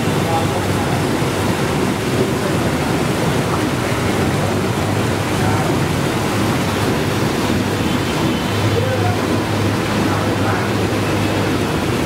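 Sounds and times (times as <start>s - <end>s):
machine steady rushing noise: 0.0s - 12.0s.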